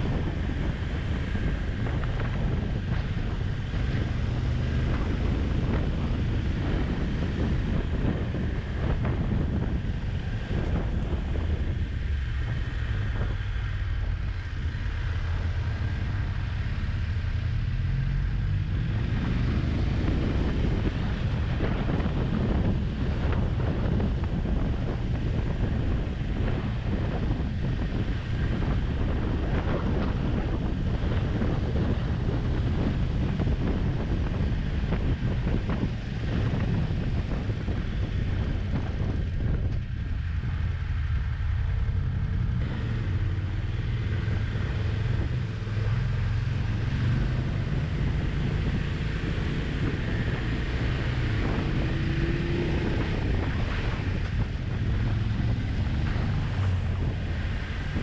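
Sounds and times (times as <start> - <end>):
motorcycle engine rumble: 0.0 - 58.0
wind buffeting microphone: 0.0 - 58.0.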